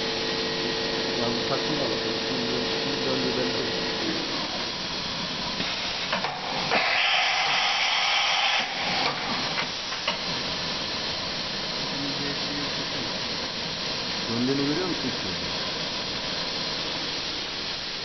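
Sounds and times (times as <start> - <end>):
machining center hissing: 0.0 - 18.0.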